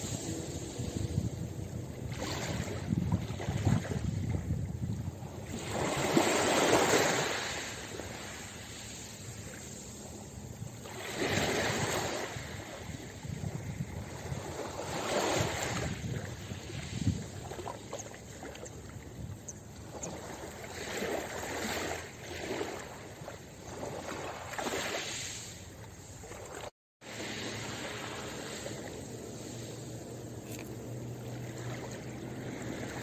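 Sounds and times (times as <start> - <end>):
waves lapping on pebble beach: 0.0 - 4.2, 5.4 - 18.6, 19.9 - 33.0.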